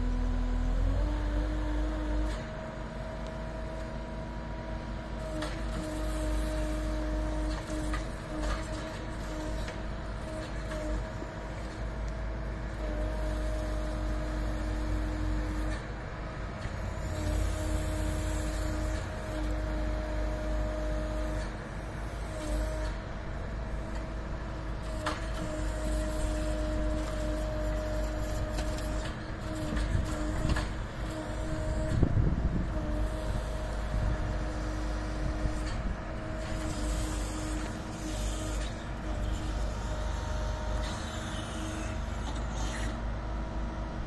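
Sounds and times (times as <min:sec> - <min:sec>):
diesel engine under load: 0:00.0 - 0:44.0
hydraulic whine: 0:00.0 - 0:44.0.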